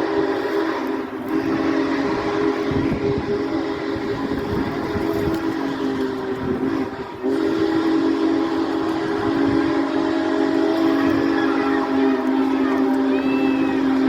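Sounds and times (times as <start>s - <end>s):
train whistle blasts: 0.0s - 14.0s.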